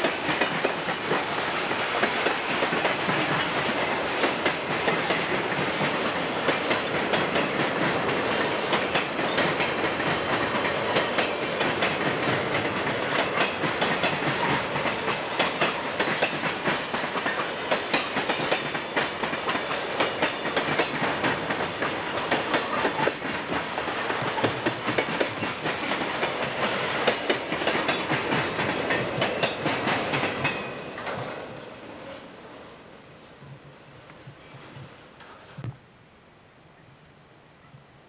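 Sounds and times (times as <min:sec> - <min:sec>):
train wheels clacking over rail joints: 0:00.0 - 0:31.6.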